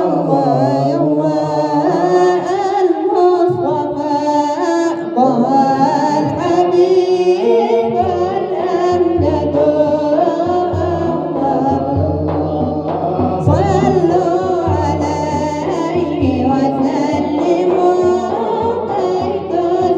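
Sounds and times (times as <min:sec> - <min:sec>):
man chanting unaccompanied: 0:00.0 - 0:19.9.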